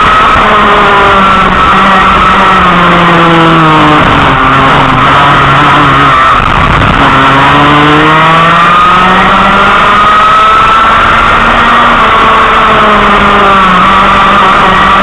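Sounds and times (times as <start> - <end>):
racing kart engine: 0.0 - 15.0.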